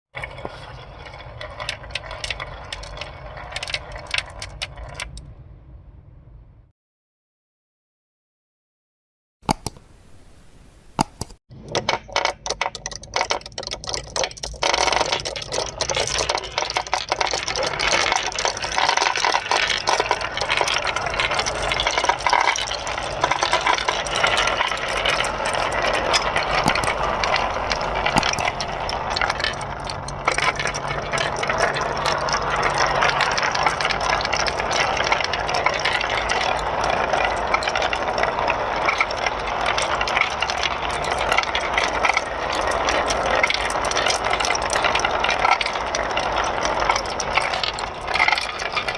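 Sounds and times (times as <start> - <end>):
marbles rattling down a track: 0.2 - 5.3, 11.6 - 48.9.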